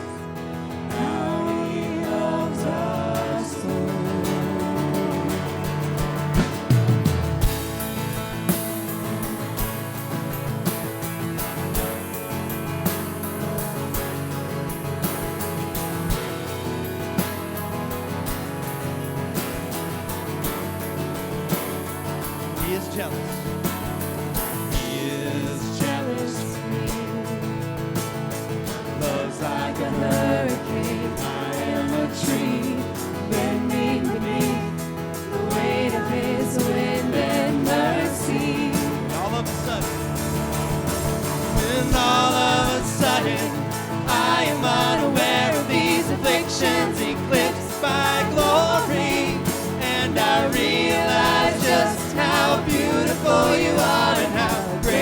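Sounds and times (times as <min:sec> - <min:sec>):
people singing: 0:00.0 - 0:55.0
worship band playing: 0:00.0 - 0:55.0.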